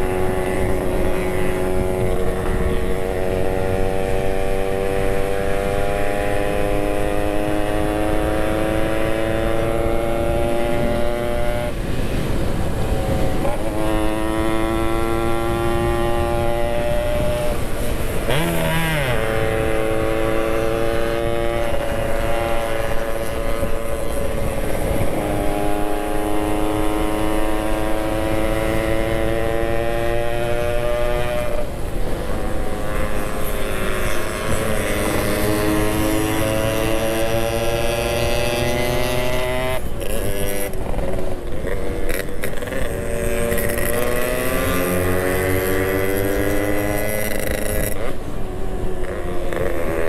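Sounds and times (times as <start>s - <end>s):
motorcycle engine revving: 0.0s - 50.0s
wind rumbling over microphone: 0.0s - 50.0s.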